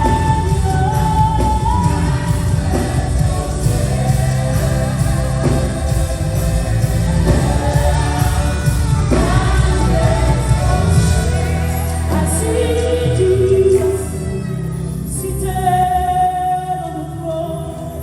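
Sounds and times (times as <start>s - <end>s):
band with heavy bass: 0.0s - 18.0s
voices singing gospel: 0.0s - 18.0s.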